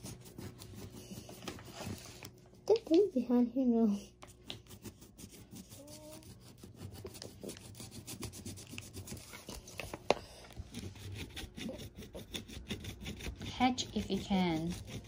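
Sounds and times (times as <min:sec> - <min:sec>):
fingernail scratching paper card: 0:00.0 - 0:02.4, 0:04.3 - 0:15.0.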